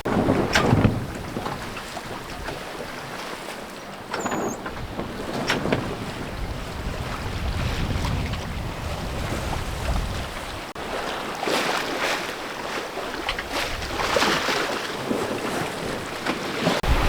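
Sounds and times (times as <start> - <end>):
wind buffeting microphone: 0.0 - 11.1, 12.5 - 17.0
sea water washing along hull: 0.0 - 17.0.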